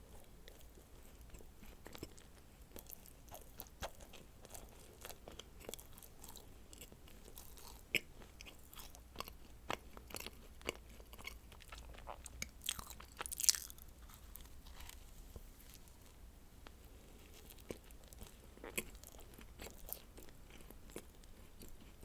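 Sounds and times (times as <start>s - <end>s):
chewing with crisp crackles: 0.0s - 22.0s.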